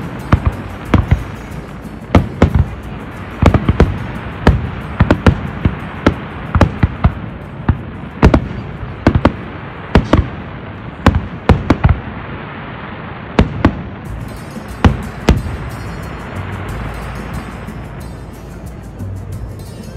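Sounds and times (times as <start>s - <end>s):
fireworks bangs: 0.0s - 17.8s
steady rushing noise: 0.0s - 19.9s.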